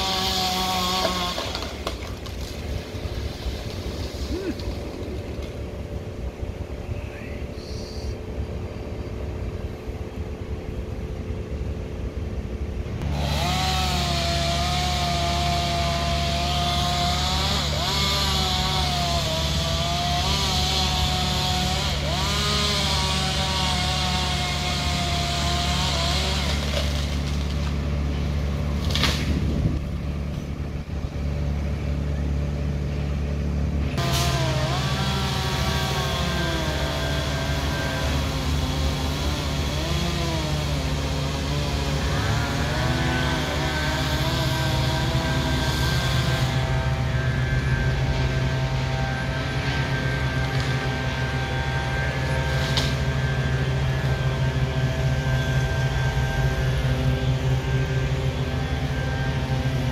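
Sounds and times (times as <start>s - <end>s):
chainsaw cutting wood: 0.0s - 5.7s, 13.0s - 30.4s, 33.8s - 59.9s
truck engine drone: 0.0s - 59.9s.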